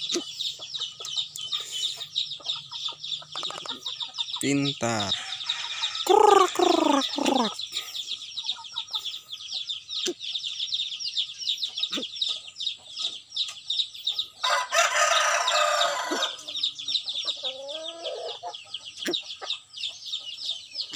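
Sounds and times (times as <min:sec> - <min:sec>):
birds calling: 0:00.0 - 0:20.9
high chirping: 0:00.0 - 0:20.9.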